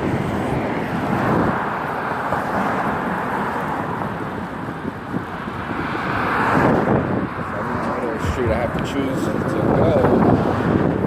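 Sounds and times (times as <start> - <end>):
street traffic: 0.0 - 11.0
wind rushing over microphone: 0.0 - 11.0.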